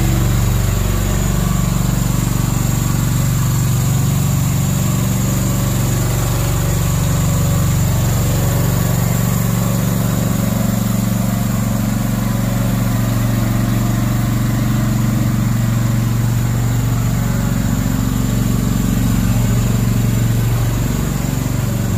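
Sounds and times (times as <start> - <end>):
mini dumper engine running: 0.0 - 21.9.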